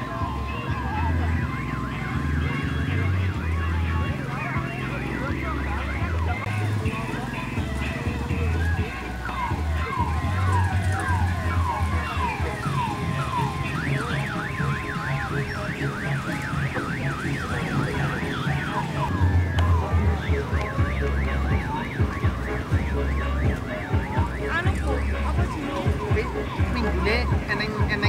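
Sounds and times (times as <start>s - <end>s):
electronic siren warbling: 0.0s - 28.0s.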